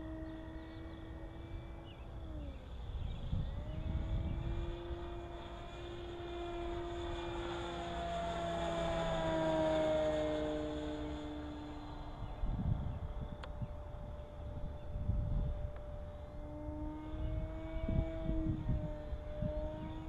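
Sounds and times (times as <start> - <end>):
model airplane motor whine: 0.0 - 20.0.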